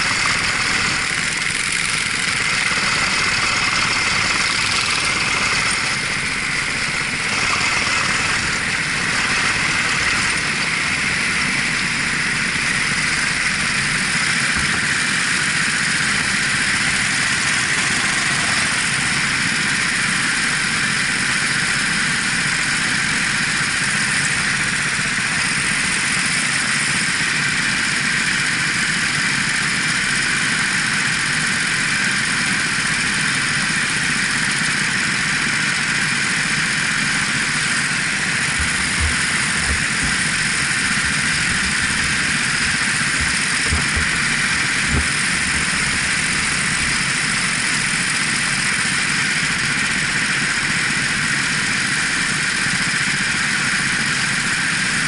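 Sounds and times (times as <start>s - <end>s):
kart engine running: 0.0s - 55.0s.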